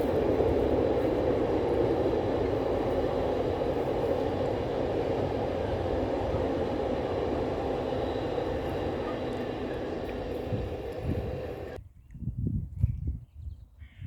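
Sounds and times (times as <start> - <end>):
diesel train passing: 0.0 - 11.8.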